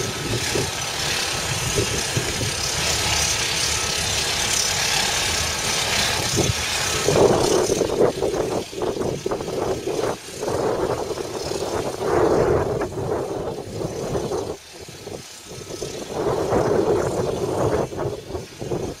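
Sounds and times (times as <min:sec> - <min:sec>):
excavator diesel engine working: 0:00.0 - 0:19.0.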